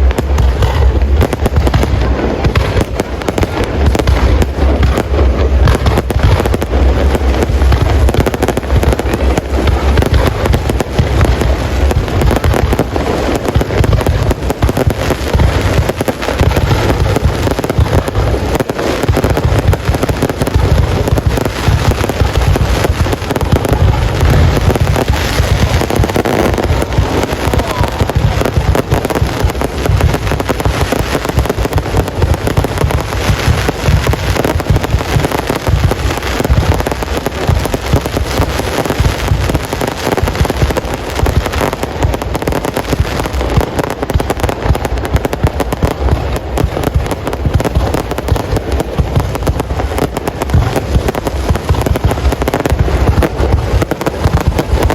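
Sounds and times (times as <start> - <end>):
fireworks bangs and crackling: 0.0 - 54.9.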